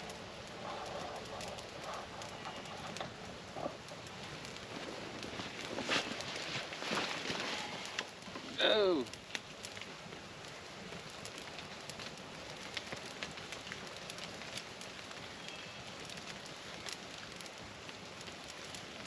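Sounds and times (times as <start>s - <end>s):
campfire crackling: 0.0s - 19.0s
rain falling: 0.0s - 19.0s.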